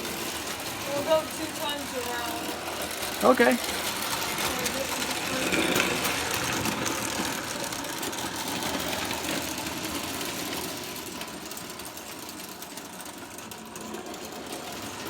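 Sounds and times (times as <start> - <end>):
toy train motor running: 0.0 - 15.0
wheels clicking over rails: 0.0 - 15.0.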